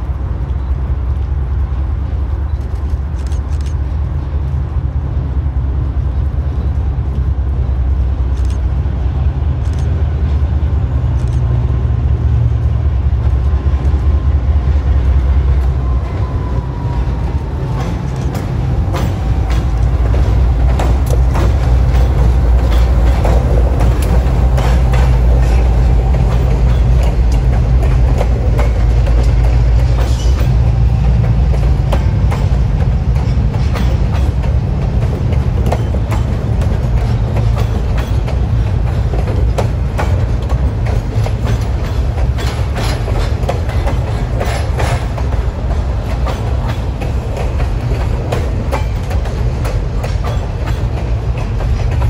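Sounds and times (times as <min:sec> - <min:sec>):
rail cars clicking and knocking: 0:00.0 - 0:52.0
train engine rumble: 0:00.0 - 0:52.0.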